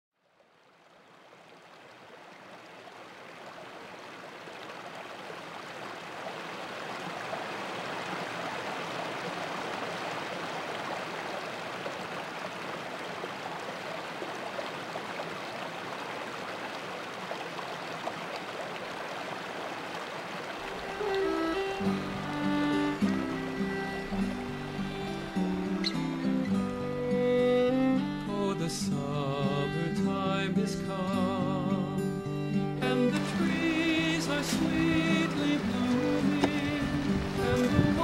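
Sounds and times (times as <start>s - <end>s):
stream babbling over rocks: 0.2s - 28.3s, 32.9s - 38.0s.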